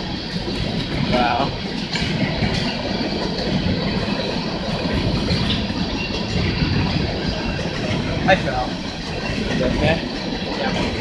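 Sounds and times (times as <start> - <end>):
steel wheels rumbling on rail: 0.0 - 11.0.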